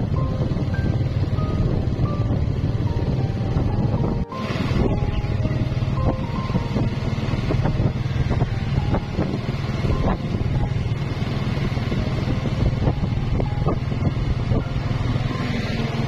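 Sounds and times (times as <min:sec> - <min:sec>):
motorbike engine rumbling: 0:00.0 - 0:16.0
wind noise on microphone: 0:00.0 - 0:16.0.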